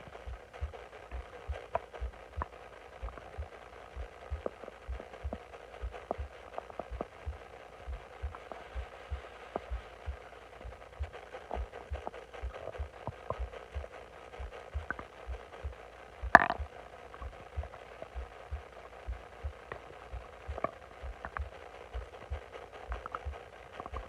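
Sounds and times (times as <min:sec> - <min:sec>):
stomach gurgling: 0:00.0 - 0:15.5, 0:16.2 - 0:24.0.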